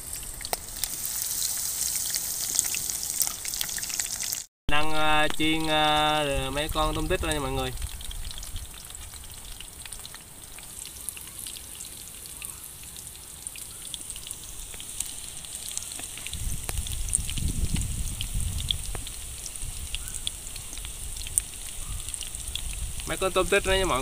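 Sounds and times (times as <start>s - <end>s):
shrimp deep-frying in oil: 0.0s - 24.0s.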